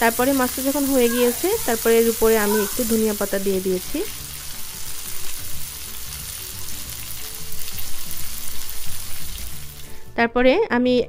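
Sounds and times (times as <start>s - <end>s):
fish sizzling in a frying pan: 0.0s - 10.0s.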